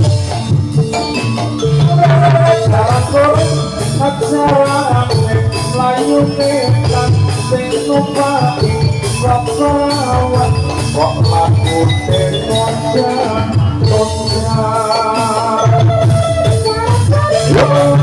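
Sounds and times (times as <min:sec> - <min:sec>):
gliding melody line: 0:00.0 - 0:18.0
hand-drum strokes: 0:00.0 - 0:18.0.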